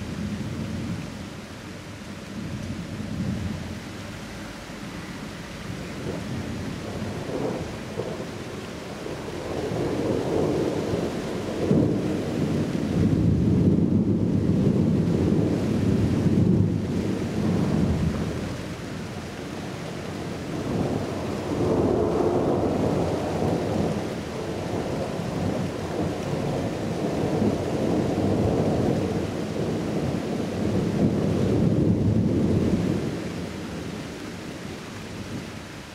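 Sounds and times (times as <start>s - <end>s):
rain hissing: 0.0s - 35.9s
thunder rumbling: 5.6s - 35.5s.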